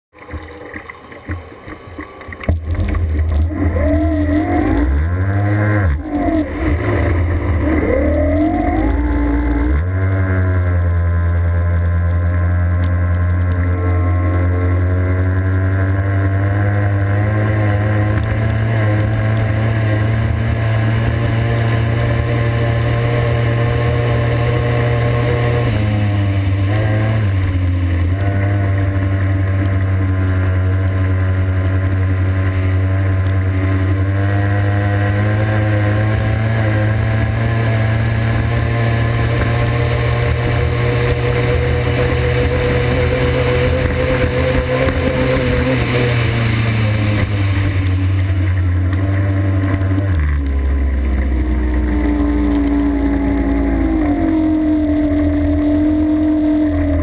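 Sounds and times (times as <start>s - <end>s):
race boat engine: 0.3s - 57.0s.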